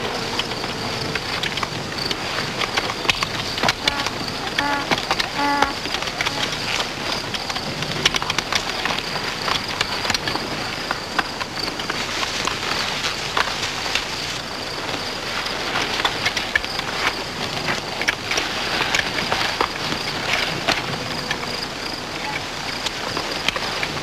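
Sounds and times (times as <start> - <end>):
constant hiss: 0.0 - 24.0
small clicks and crackles: 0.0 - 24.0.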